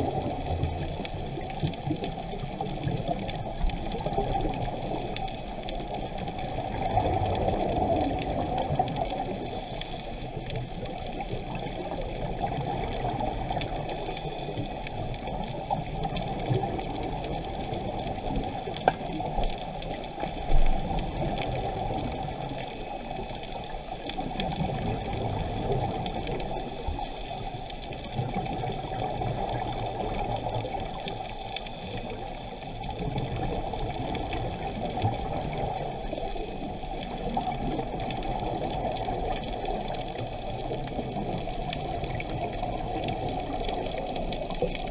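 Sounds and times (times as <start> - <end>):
bubbles gurgling underwater: 0.0 - 44.9.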